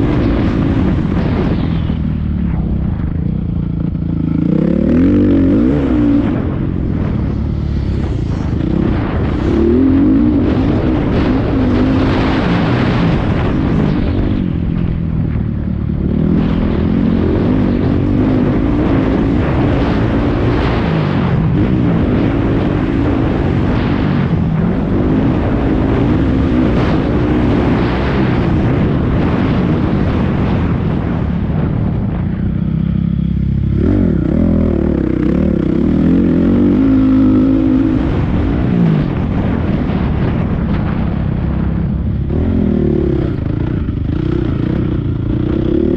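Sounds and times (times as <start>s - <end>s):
dirt bike engine revving: 0.0s - 31.1s, 32.6s - 40.4s, 42.2s - 45.9s.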